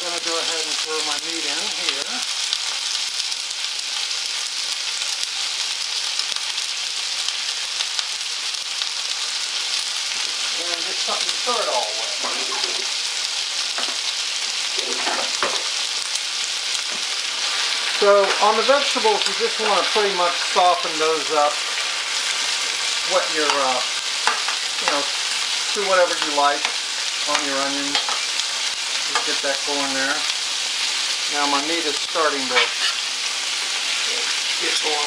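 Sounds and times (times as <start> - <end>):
meat sizzling in a skillet: 0.0 - 35.0
onions frying in a pan: 0.0 - 35.0.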